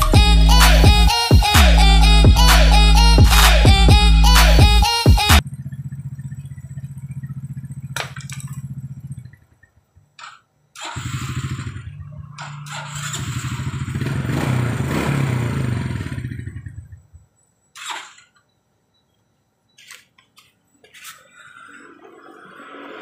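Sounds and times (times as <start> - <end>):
motorcycle engine revving: 0.0 - 17.2, 21.6 - 23.0.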